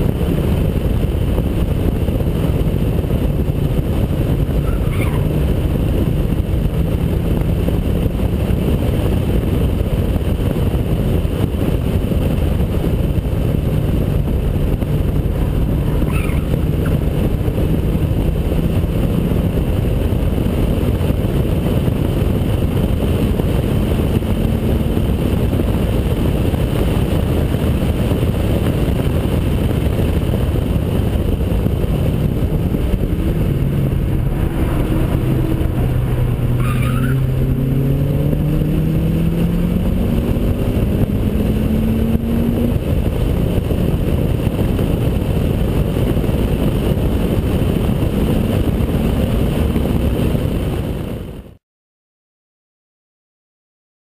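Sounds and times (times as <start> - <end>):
car engine accelerating: 0.0 - 50.7
wind and road noise: 0.0 - 51.6.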